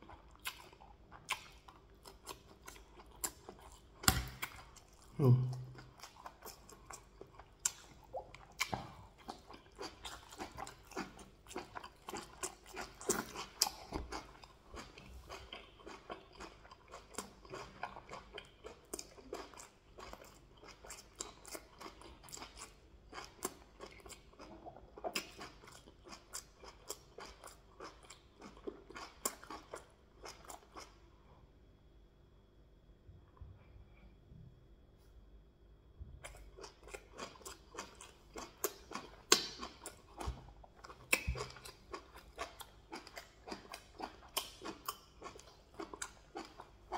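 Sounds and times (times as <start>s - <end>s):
person chewing food: 0.0s - 31.2s, 36.2s - 46.9s.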